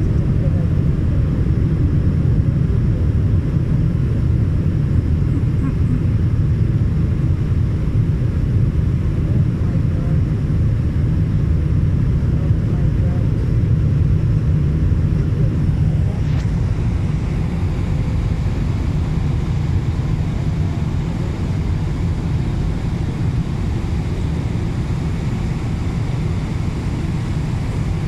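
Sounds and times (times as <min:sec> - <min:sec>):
jet airliner cabin rumble: 0:00.0 - 0:28.0.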